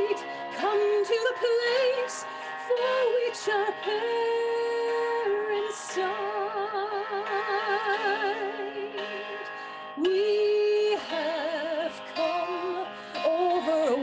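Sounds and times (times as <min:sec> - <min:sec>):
woman singing a hymn: 0:00.0 - 0:14.0.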